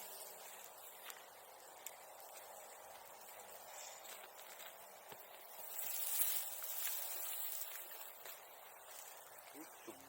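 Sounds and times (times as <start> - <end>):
bonfire crackling: 0.0 - 10.0
light hiss: 0.0 - 10.0.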